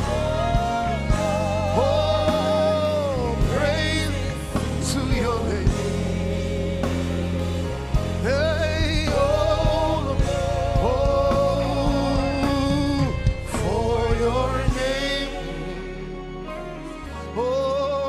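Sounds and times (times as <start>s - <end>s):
bass: 0.0s - 18.0s
keyboard: 0.0s - 18.0s
voices singing with vibrato: 0.0s - 18.0s.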